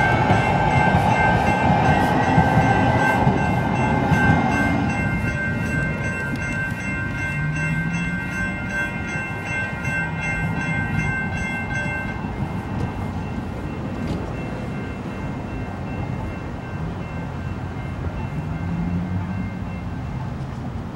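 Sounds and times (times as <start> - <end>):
railroad crossing bell ringing: 0.0 - 20.9.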